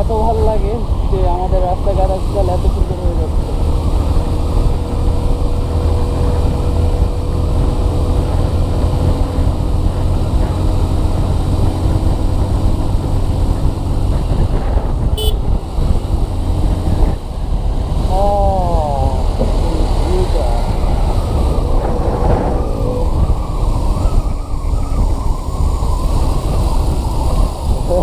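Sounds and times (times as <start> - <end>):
motorcycle engine and tyres: 0.0 - 28.0
wind rushing over camera: 0.0 - 28.0.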